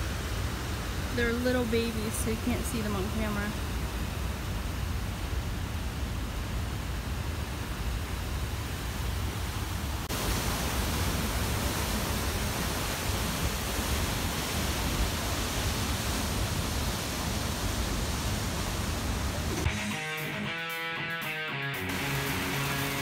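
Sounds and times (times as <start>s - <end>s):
turbulent whitewater churning: 0.0s - 19.7s.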